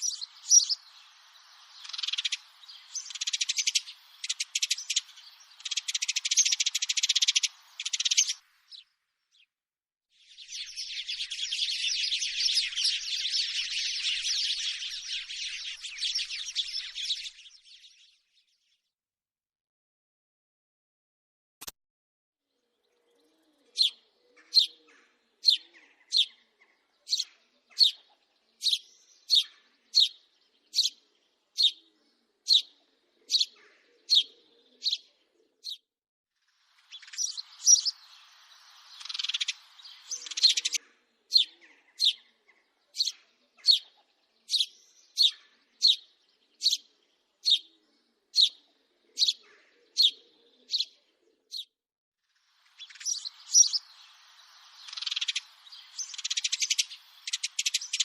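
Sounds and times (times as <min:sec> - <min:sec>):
sparrow chirping: 0:00.0 - 0:09.5, 0:10.3 - 0:18.1, 0:23.1 - 0:35.9, 0:36.7 - 0:51.8, 0:52.5 - 0:58.0.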